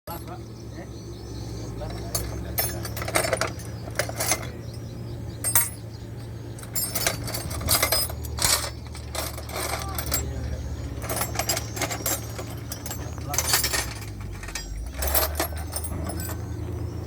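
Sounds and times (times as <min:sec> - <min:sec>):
low engine hum: 0:00.1 - 0:17.0
metallic clinks and taps: 0:01.9 - 0:10.4, 0:11.0 - 0:16.5.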